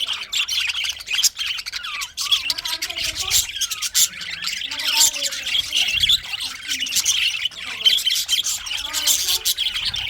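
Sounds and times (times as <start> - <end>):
budgerigars chirping: 0.0 - 10.0.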